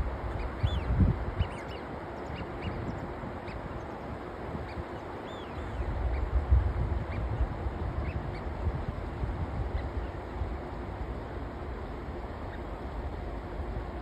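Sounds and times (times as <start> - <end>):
river water flowing: 0.0 - 14.0
wind rumbling on microphone: 0.0 - 14.0.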